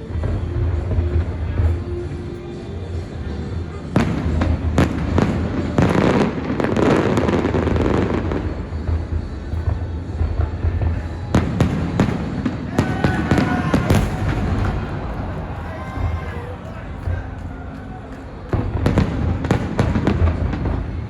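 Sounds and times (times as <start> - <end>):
fireworks bangs and crackling: 0.0 - 21.0
music soundtrack: 0.0 - 21.0.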